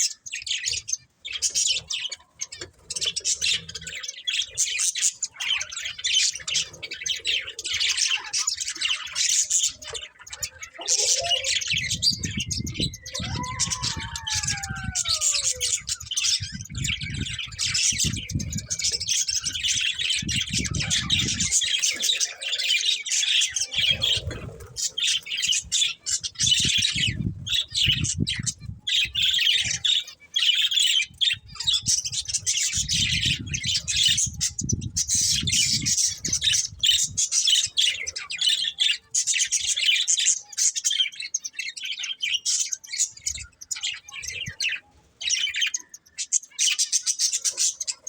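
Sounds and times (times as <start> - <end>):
budgerigars chattering: 0.0 - 48.0.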